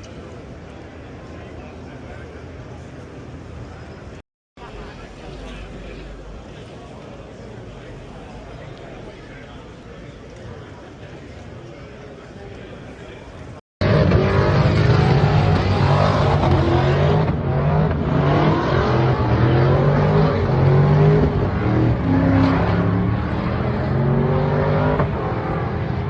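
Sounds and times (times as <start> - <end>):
car engines revving: 0.4 - 13.2, 13.8 - 26.0.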